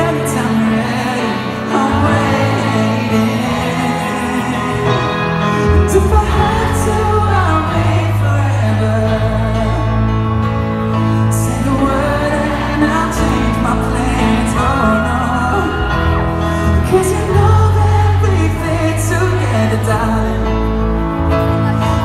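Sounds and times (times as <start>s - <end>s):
person singing: 0.0s - 22.0s
piano chords: 0.0s - 22.0s.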